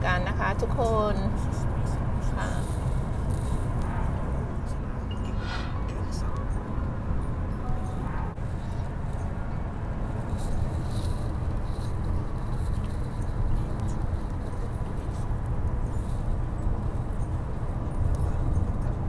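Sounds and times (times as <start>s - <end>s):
road and tyre noise in car: 0.0s - 19.0s.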